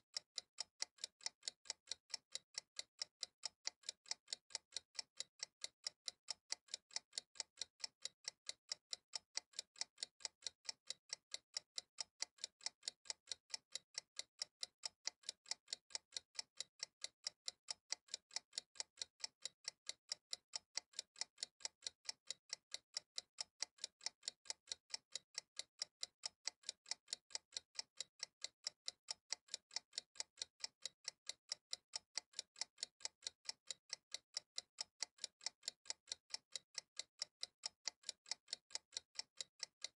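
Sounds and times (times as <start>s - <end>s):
steady clock-like ticking: 0.0s - 39.9s.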